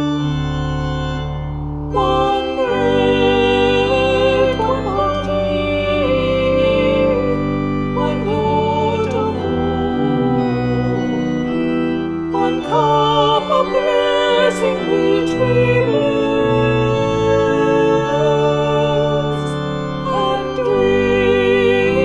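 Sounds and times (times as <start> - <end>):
church organ playing chords: 0.0 - 22.0.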